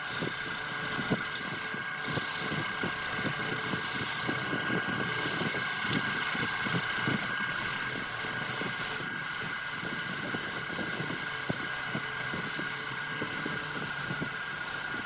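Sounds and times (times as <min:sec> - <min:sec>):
lathe motor whine: 0:00.0 - 0:15.0
tool scraping spinning wood: 0:00.0 - 0:15.0.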